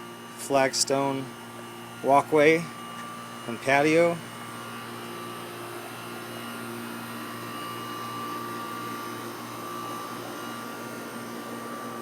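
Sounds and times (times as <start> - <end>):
machine drone with faint whine: 0.0 - 12.0.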